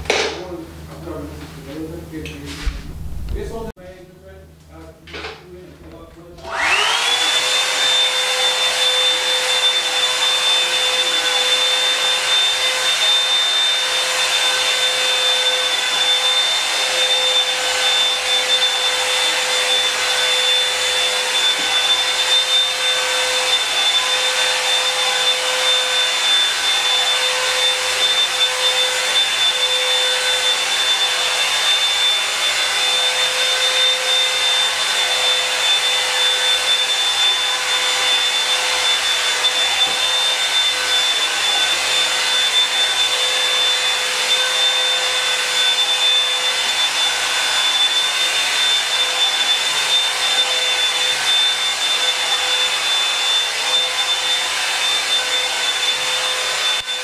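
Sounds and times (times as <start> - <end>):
motor whine and hum: 0.7 - 57.0
hair dryer brush blowing air: 2.4 - 3.8, 6.4 - 57.0.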